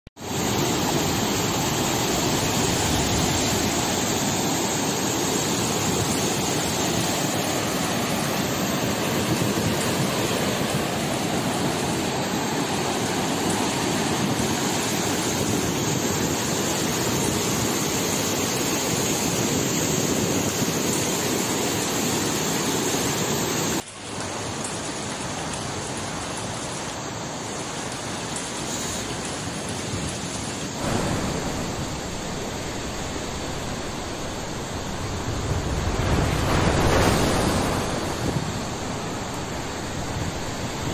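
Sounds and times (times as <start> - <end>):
water flowing: 0.2 - 40.9
water rushing over weir: 0.2 - 40.9.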